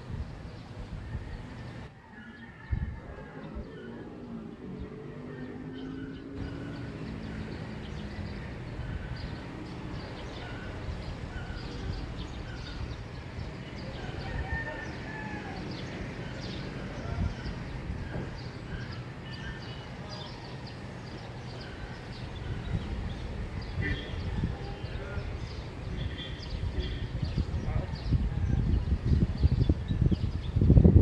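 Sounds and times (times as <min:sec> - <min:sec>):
distant neighbourhood hum: 0:00.0 - 0:31.0
small birds chirping: 0:03.5 - 0:30.9.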